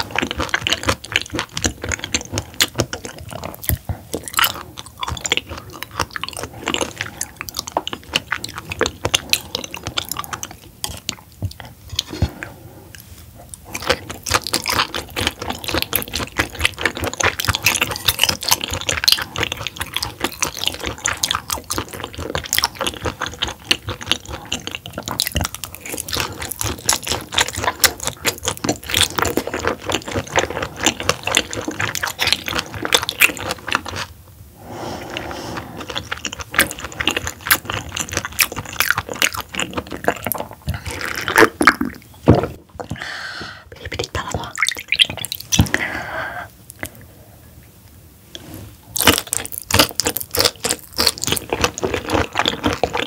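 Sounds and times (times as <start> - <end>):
close-miked chewing: 0.0 - 43.1, 43.7 - 47.1, 48.3 - 53.0.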